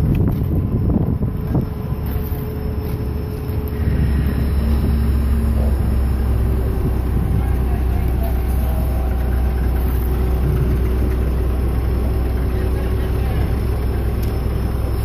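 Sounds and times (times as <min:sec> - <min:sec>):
crane engine droning: 0:00.0 - 0:15.0.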